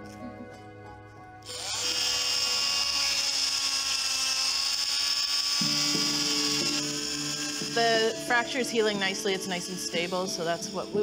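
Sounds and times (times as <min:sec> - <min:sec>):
electric cast saw whining: 0:01.4 - 0:11.0.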